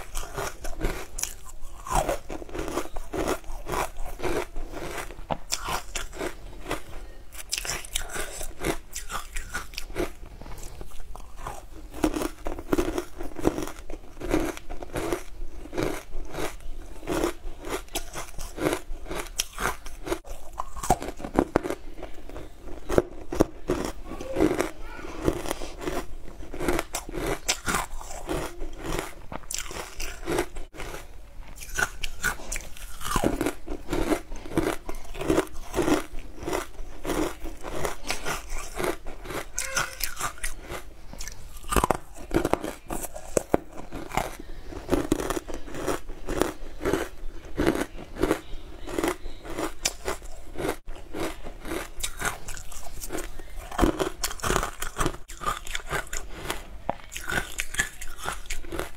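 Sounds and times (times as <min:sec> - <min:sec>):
crunching and chewing ice: 0:00.0 - 0:58.9.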